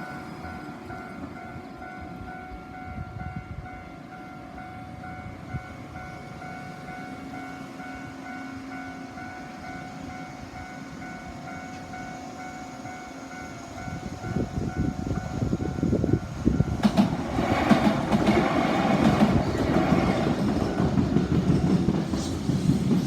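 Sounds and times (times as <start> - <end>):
level crossing warning bell: 0.0 - 21.8
train rumble approaching: 0.0 - 23.0.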